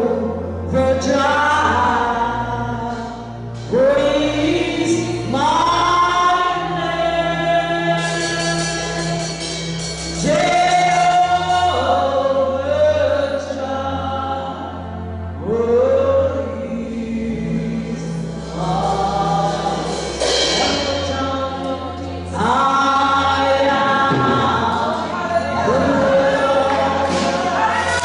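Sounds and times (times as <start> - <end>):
choir singing gospel: 0.0 - 28.0
low organ accompaniment: 0.0 - 28.0.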